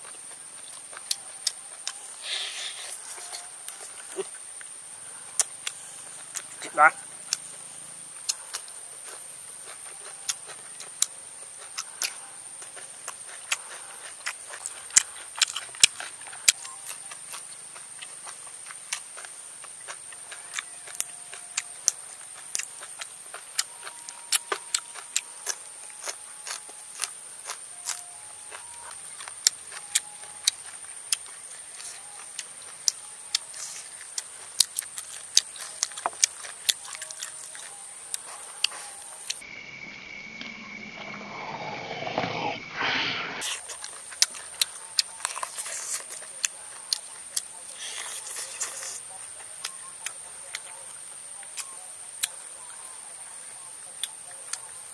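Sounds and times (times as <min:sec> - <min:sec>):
man chewing crunchy food: 0:00.0 - 0:39.4, 0:43.4 - 0:52.8.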